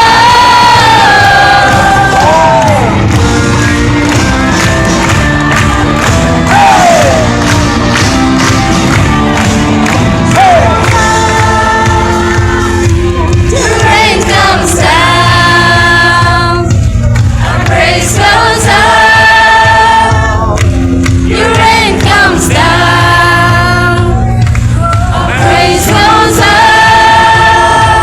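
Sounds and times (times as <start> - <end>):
live band playing praise music: 0.0 - 28.0.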